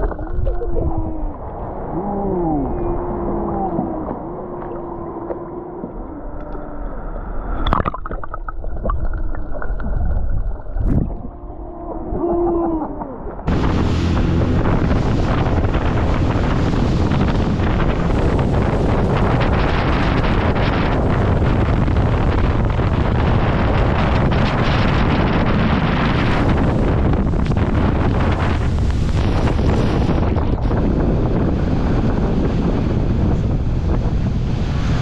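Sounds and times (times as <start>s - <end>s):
wind buffeting microphone: 0.0s - 6.0s, 8.8s - 35.0s
gurgling water: 0.0s - 35.0s.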